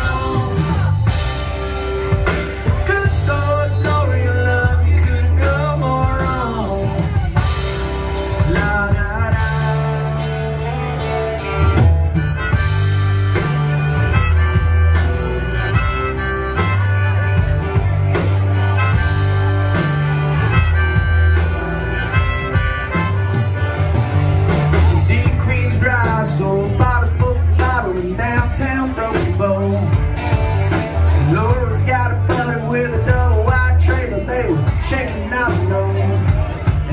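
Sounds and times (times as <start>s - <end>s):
bass line: 0.0s - 36.9s
drums: 0.0s - 36.9s
electric guitars: 0.0s - 36.9s
lead melody: 0.0s - 36.9s.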